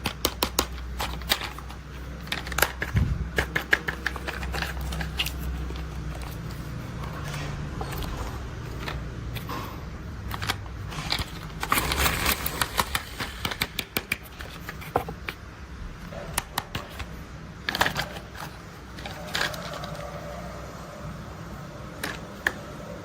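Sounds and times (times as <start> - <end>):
loud plastic clacks: 0.0 - 15.4, 16.1 - 20.2
plastic toy clicking and clattering: 0.0 - 20.6, 21.9 - 22.8.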